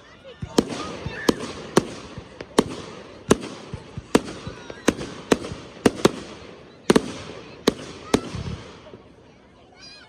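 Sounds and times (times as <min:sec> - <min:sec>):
firework bangs: 0:00.5 - 0:09.2.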